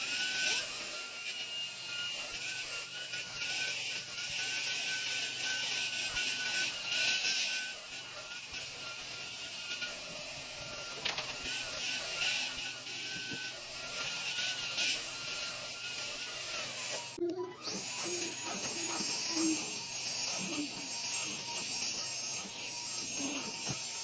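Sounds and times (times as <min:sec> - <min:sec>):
stick vacuum motor whine: 0:00.0 - 0:24.0.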